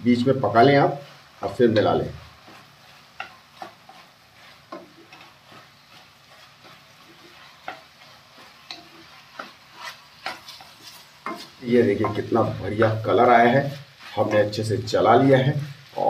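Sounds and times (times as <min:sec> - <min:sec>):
faint sizzle: 0:00.0 - 0:16.0
spatula scraping and tapping pan: 0:00.5 - 0:16.0.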